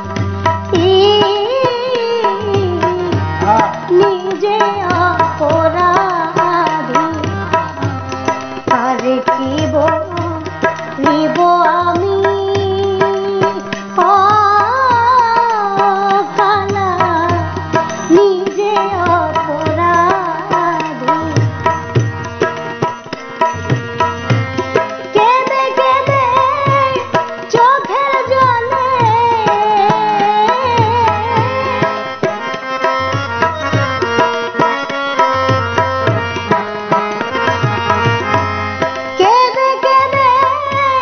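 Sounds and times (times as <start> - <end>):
harmonium melody: 0.0 - 41.0
tabla: 0.0 - 41.0
woman singing: 0.4 - 22.0, 24.7 - 32.3, 36.9 - 41.0.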